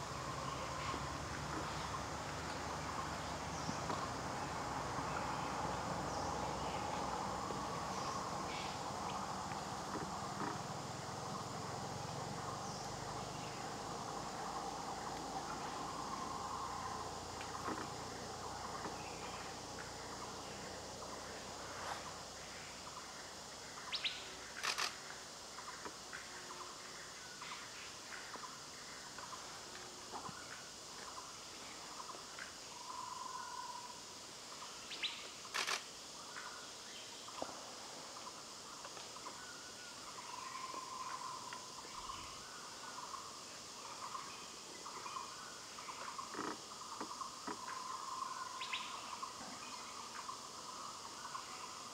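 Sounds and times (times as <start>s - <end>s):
high insect drone: 0.0s - 51.9s.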